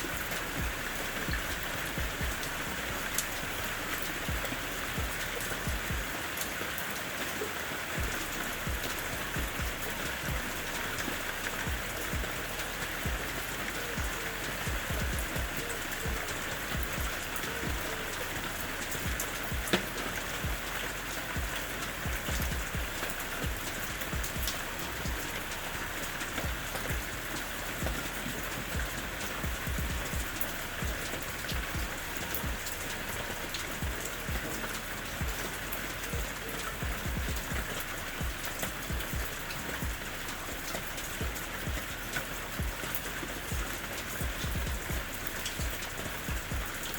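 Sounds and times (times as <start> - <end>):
steady rain with drops: 0.0 - 46.9.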